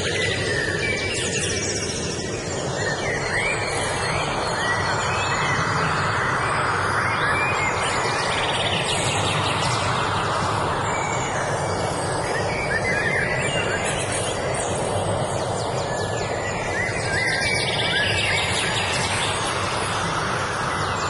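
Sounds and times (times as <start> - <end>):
songbirds chirping and trilling: 0.0 - 21.0
steady rushing noise: 0.0 - 21.0.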